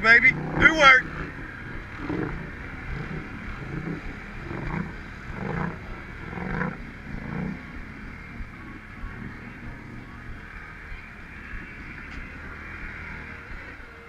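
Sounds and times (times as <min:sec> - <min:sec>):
engine revving over idle: 0:00.0 - 0:14.0.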